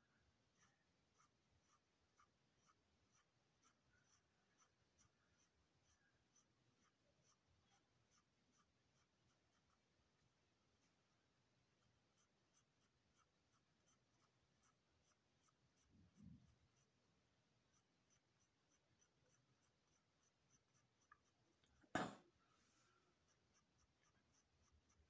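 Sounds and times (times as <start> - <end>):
pencil scratching on paper: 0.4 - 22.1, 23.2 - 25.0.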